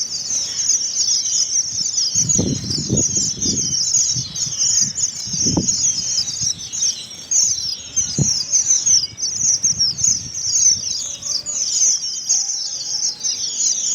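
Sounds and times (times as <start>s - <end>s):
finches twittering: 0.0s - 13.9s.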